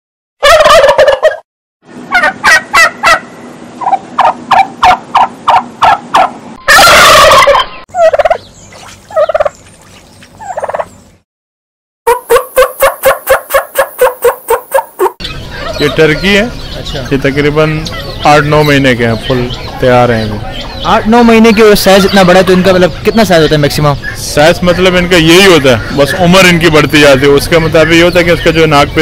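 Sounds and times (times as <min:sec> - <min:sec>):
turkeys gobbling: 0:00.4 - 0:01.4, 0:02.1 - 0:11.0, 0:12.1 - 0:17.1, 0:17.8 - 0:29.0.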